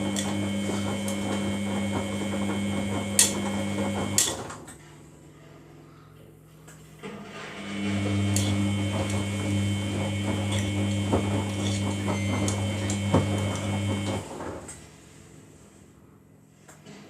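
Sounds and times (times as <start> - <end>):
washing machine electrical hum: 0.0 - 17.0.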